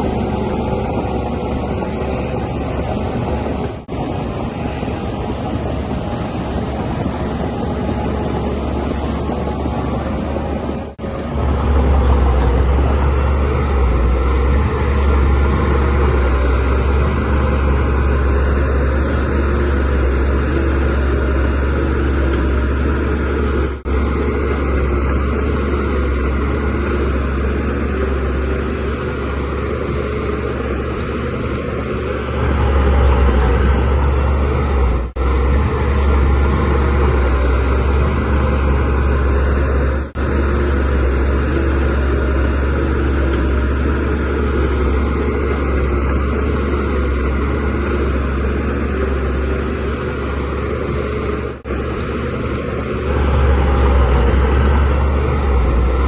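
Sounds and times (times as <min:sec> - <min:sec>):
bulldozer diesel engine rumbling: 0:00.0 - 0:56.0.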